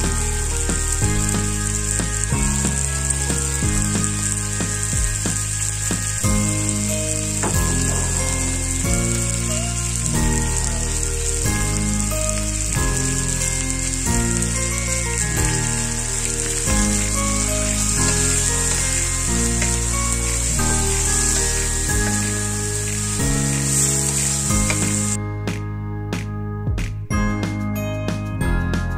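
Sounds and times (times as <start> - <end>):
food sizzling in a wok: 0.0 - 25.2
background music: 0.0 - 28.9.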